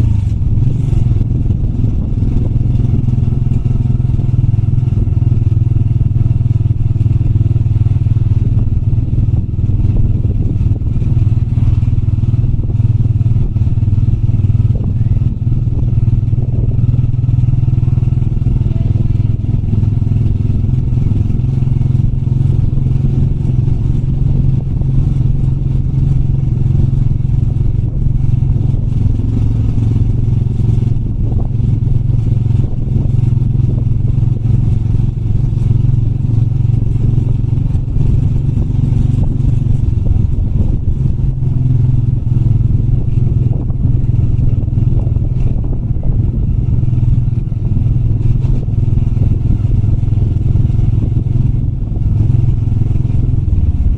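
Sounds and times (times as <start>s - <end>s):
motorbike engine running: 0.0s - 53.9s
motorbike rattling: 0.0s - 53.9s.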